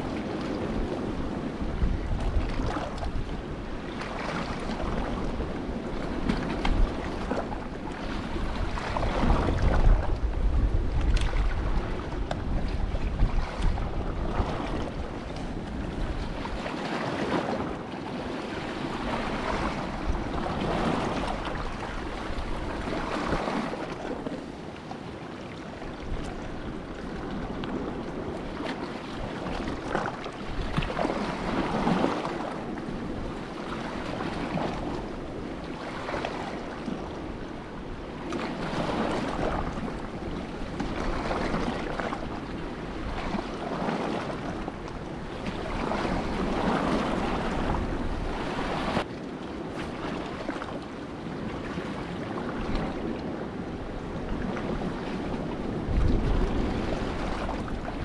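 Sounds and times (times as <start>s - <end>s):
sea waves washing: 0.0s - 58.0s
wind buffeting microphone: 0.0s - 58.0s.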